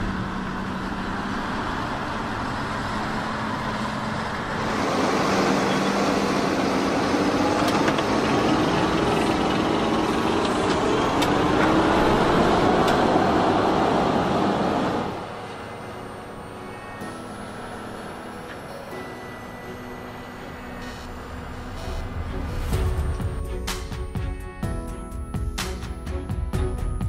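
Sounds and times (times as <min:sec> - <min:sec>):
tractor diesel engine under load: 0:00.0 - 0:24.7.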